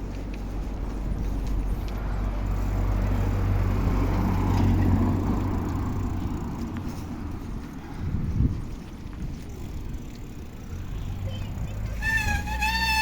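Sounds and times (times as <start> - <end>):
road traffic rumble: 0.0 - 13.0
vehicle passing: 0.0 - 13.0.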